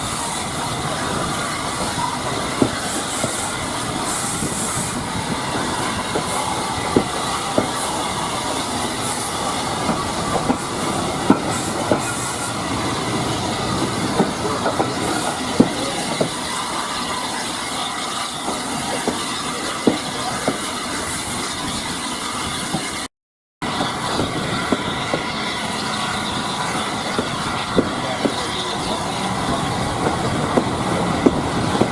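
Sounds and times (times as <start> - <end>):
train carriage rolling rumble: 0.0 - 31.9
wheels clicking over rail joints: 0.0 - 31.9.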